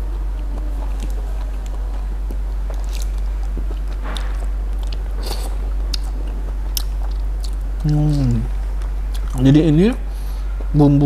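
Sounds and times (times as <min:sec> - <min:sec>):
person chewing: 0:00.0 - 0:09.4
steady low hum: 0:00.0 - 0:11.0.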